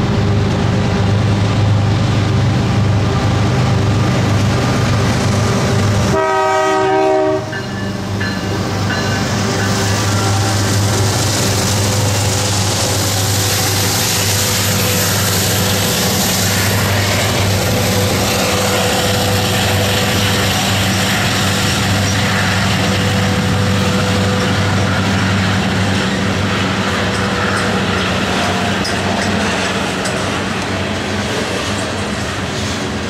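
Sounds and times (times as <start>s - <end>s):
diesel locomotive engine hum: 0.0s - 33.0s
train wheels rumbling on track: 0.0s - 33.0s.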